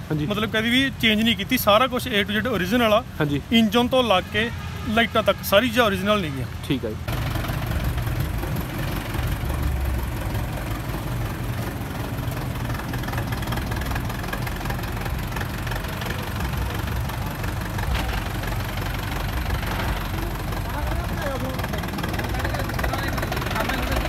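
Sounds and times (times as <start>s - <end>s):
tractor diesel engine rumbling: 0.0s - 24.0s.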